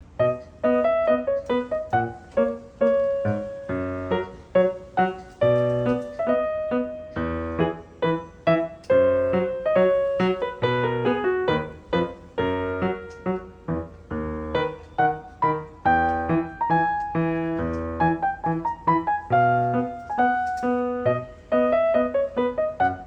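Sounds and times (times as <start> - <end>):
light bouncy piano tune: 0.0 - 23.0.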